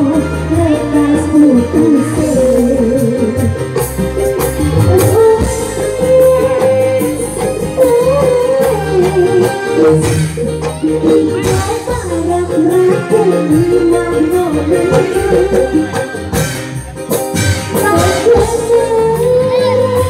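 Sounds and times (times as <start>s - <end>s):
percussion strikes: 0.0s - 20.0s.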